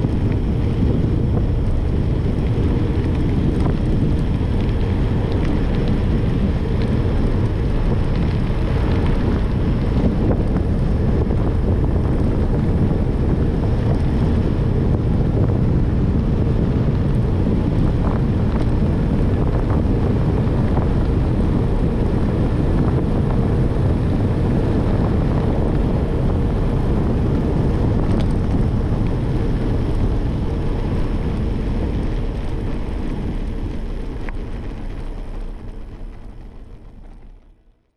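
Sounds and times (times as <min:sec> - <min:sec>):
wind buffeting microphone: 0:00.0 - 0:37.8.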